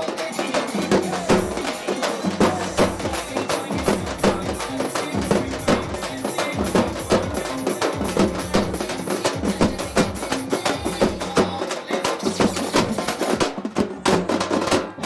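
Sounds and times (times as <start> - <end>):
drums beaten with sticks: 0.0 - 15.0.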